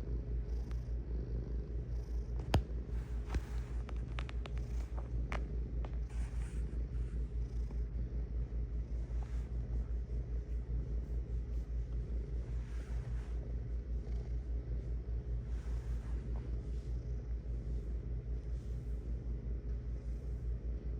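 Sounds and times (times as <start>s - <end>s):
cat purring: 0.4s - 20.9s.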